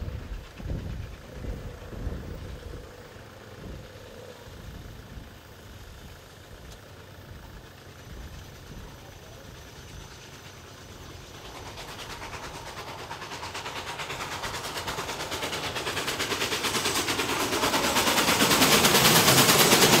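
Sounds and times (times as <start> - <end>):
steam locomotive exhaust beats: 0.0 - 20.0.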